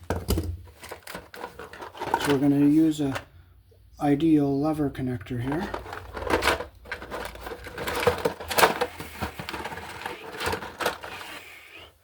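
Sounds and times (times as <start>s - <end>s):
hands handling wires: 0.0s - 3.3s, 5.2s - 11.6s.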